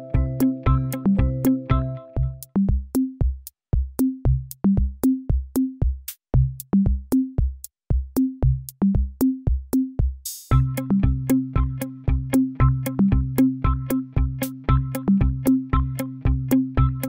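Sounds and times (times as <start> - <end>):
electronic drum-machine beat: 0.0 - 17.0.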